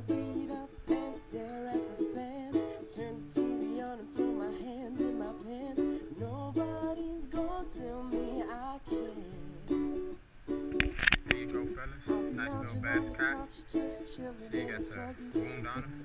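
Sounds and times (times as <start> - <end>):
plucked string instrumental music: 0.0 - 16.0.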